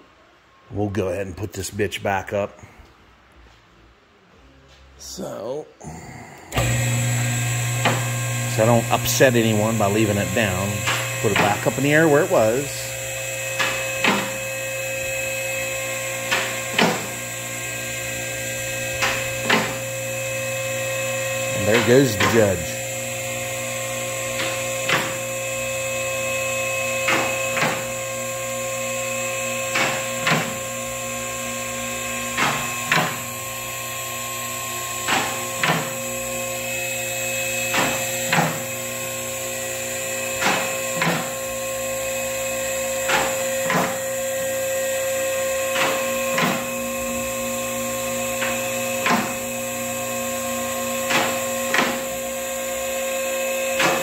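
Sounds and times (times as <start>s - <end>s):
pump motor humming: 6.5s - 54.0s.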